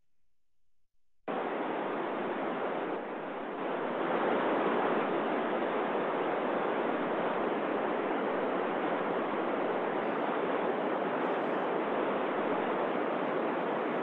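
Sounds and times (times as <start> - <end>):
radio receiver white noise hiss: 1.3 - 14.0.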